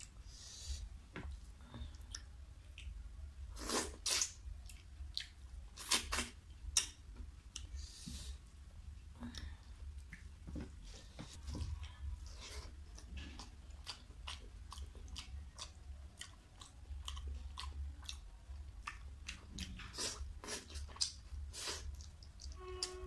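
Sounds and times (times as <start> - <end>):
person chewing: 1.3 - 8.4, 11.3 - 23.0.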